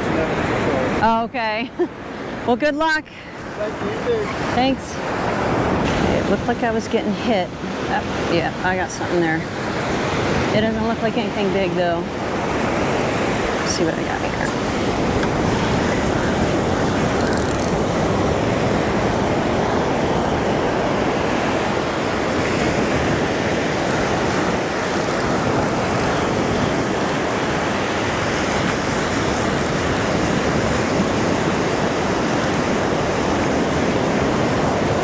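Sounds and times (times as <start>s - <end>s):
ocean surf breaking on sand: 0.0s - 35.0s.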